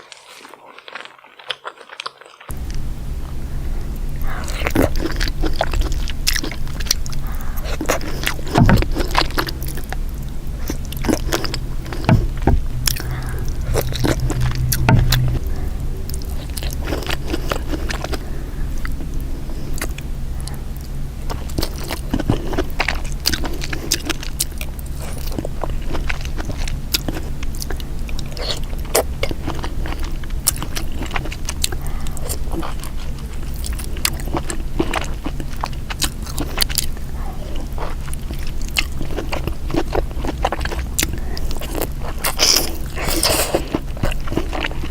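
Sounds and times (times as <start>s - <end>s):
chewing and biting: 0.0s - 3.4s, 4.2s - 44.9s
steady low hum: 2.5s - 44.9s.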